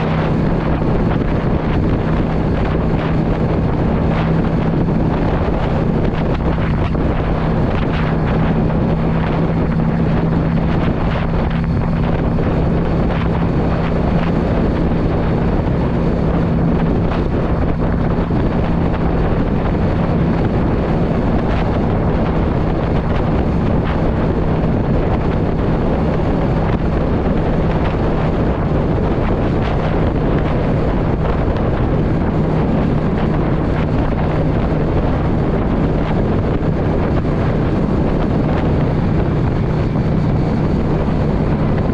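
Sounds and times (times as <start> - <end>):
motorcycle engine cruising: 0.0 - 41.9
wind noise on microphone: 0.0 - 41.9.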